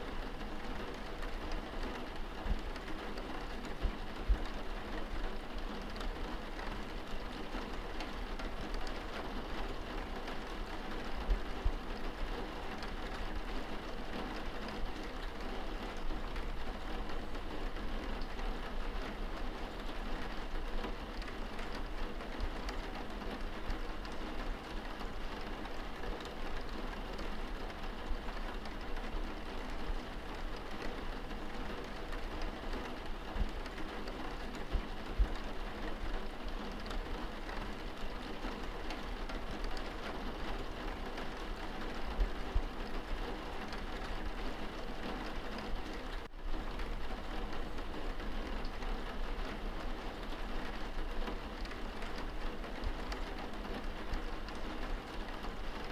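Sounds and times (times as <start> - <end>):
rain pattering on window glass: 0.0 - 55.9.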